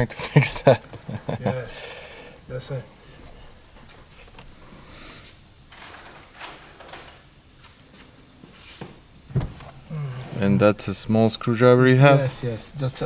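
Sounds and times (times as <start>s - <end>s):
hand tools clicking and scraping: 0.7s - 11.3s.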